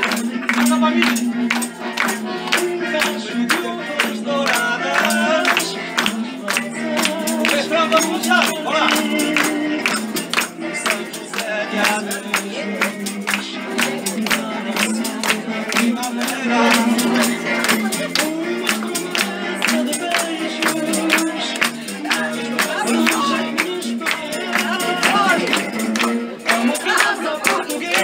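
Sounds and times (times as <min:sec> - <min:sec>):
button accordion playing: 0:00.0 - 0:28.0
hand claps: 0:00.0 - 0:28.0
voices singing: 0:00.0 - 0:28.0.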